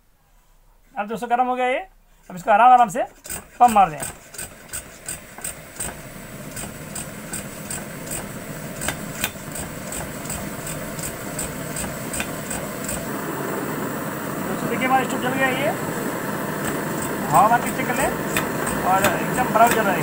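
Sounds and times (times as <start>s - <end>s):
stove pump strokes: 2.1s - 20.0s
pressure stove burner roar: 2.8s - 20.0s.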